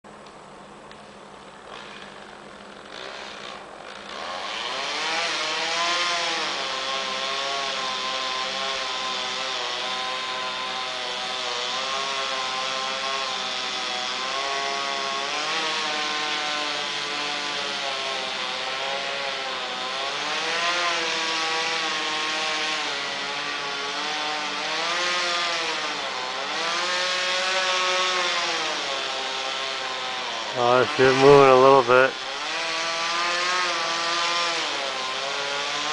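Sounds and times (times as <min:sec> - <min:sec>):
chainsaw cutting tree: 0:00.9 - 0:35.9.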